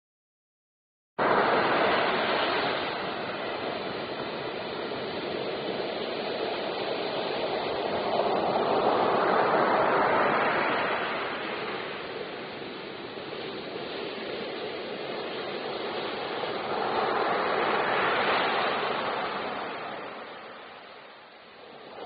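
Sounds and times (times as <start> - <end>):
ocean waves breaking: 1.2 - 22.0.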